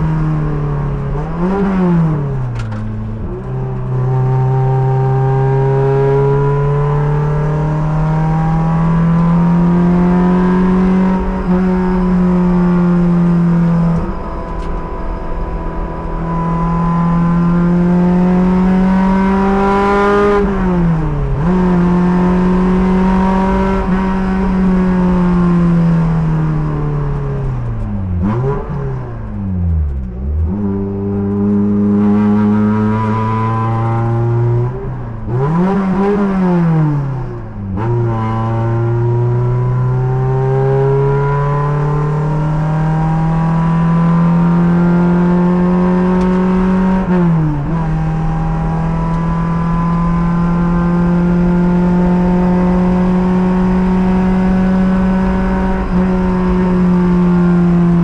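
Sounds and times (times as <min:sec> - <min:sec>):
race car engine revving through gears: 0:00.0 - 0:58.0.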